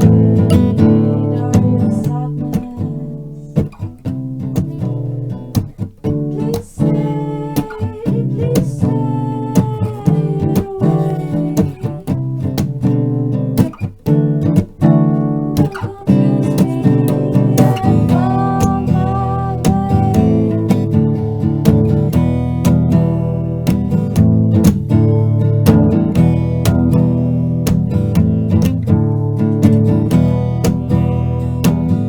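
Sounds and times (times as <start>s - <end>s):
acoustic guitar strumming: 0.0s - 32.0s
held guitar melody line: 0.0s - 32.0s.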